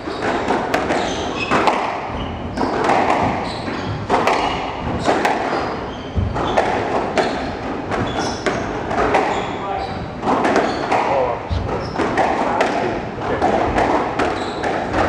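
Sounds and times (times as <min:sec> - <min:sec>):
shoes squeaking on wooden floor: 0:00.0 - 0:15.0
squash ball cracking off rackets: 0:00.0 - 0:15.0.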